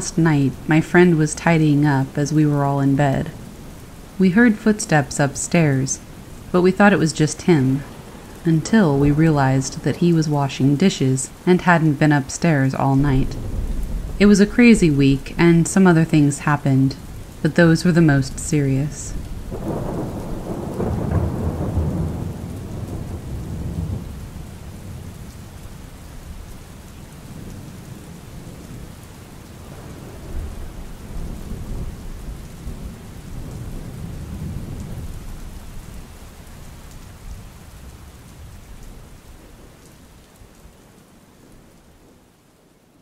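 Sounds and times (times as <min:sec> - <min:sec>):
rain falling: 0:00.0 - 0:43.0
low rolling thunder: 0:05.1 - 0:40.2.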